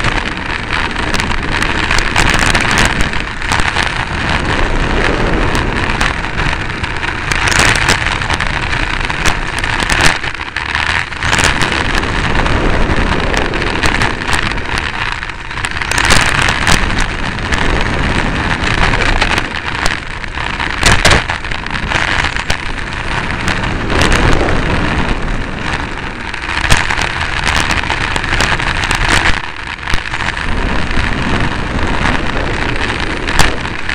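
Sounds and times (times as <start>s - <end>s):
wind and tyre noise: 0.0s - 33.9s.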